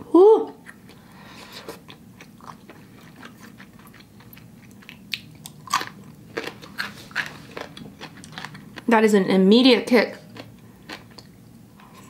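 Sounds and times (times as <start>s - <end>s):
person chewing noodles: 0.6s - 8.9s, 10.3s - 12.0s.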